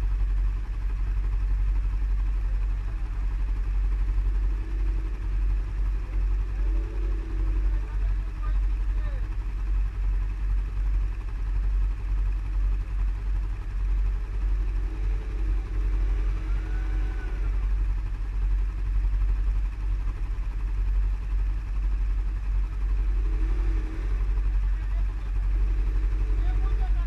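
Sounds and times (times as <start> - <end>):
atv engine rumbling: 0.0 - 27.0.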